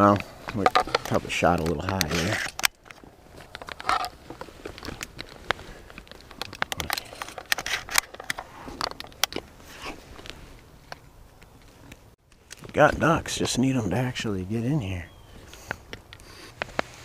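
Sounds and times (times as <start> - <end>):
rustling and crinkling with crackles: 0.0 - 17.0.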